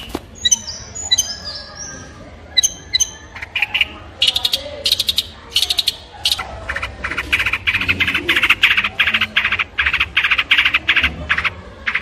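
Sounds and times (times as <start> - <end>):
shrike rattling chatter: 0.0 - 12.0.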